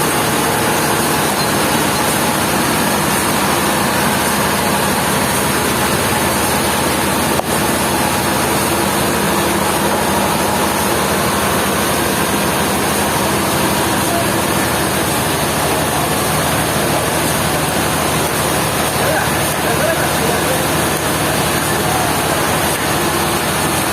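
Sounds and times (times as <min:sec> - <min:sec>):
sawmill machinery running: 0:00.0 - 0:23.9.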